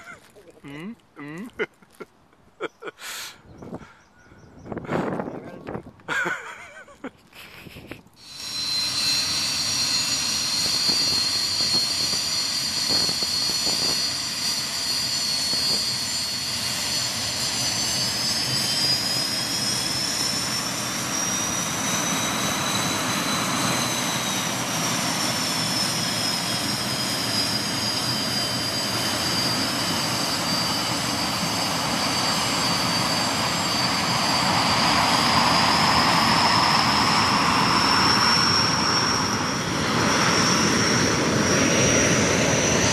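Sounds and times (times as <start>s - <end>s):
jet engine high whine: 0.0s - 0.4s, 2.4s - 42.9s.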